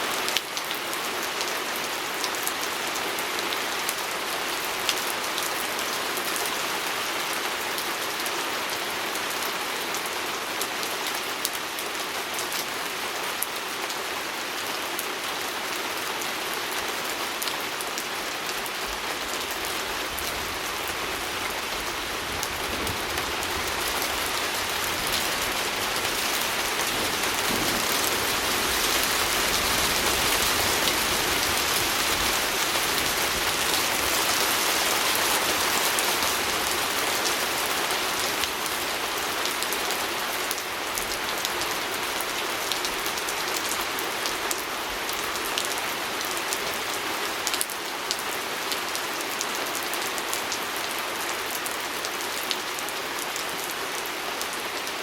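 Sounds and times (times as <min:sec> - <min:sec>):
rain on a window: 0:00.1 - 0:50.7.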